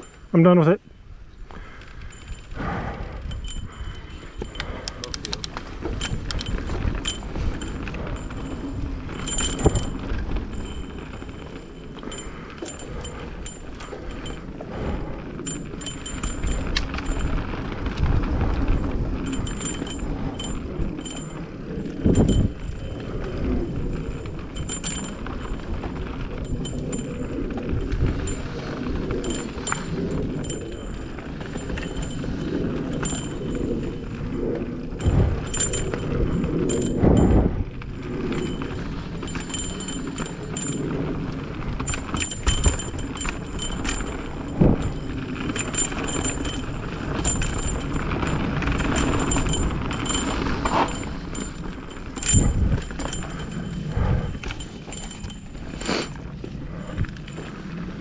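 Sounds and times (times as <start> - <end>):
bike chain clicking and rattling: 0.0 - 58.0
tyres rolling over dirt: 3.7 - 58.0.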